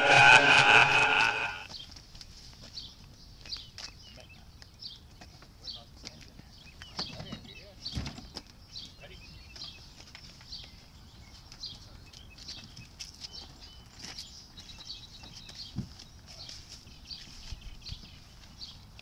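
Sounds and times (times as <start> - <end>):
birds chirping: 2.8 - 19.0.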